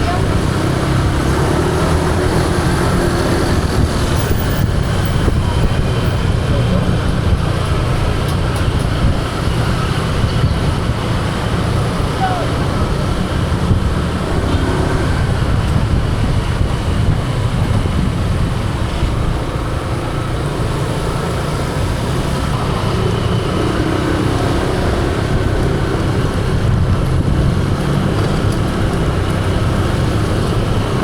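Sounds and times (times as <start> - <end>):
motor scooter engine: 0.0 - 31.0
tyre and road noise: 0.0 - 31.0.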